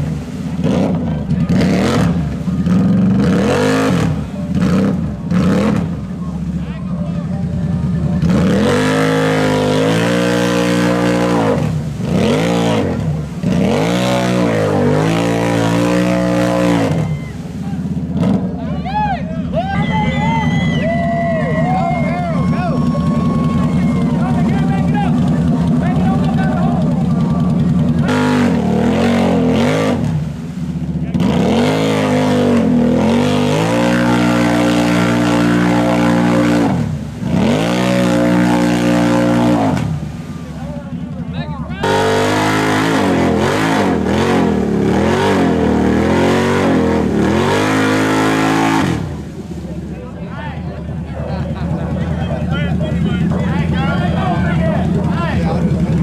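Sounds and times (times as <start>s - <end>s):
atv engine revving: 0.0s - 56.0s
tires churning through mud: 0.0s - 56.0s.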